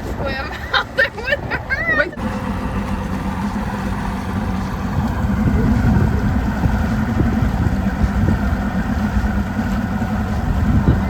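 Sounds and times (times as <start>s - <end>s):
motorboat engine humming: 0.0s - 11.0s
rough low rumble: 2.1s - 11.0s.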